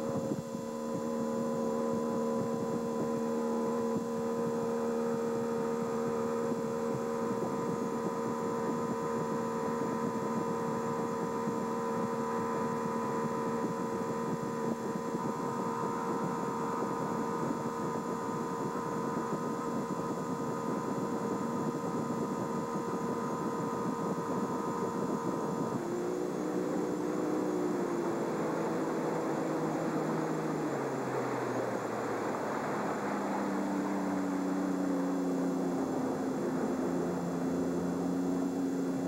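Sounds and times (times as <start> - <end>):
boat motor droning: 0.0 - 39.0.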